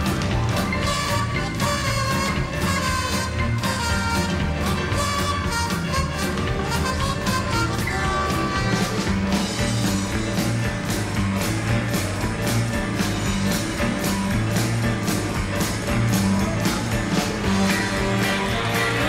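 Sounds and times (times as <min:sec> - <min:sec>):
music with fast beat: 0:00.0 - 0:19.0.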